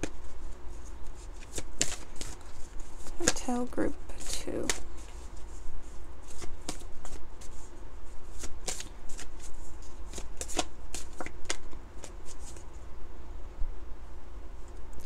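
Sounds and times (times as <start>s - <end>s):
cards being shuffled: 0.0s - 12.7s.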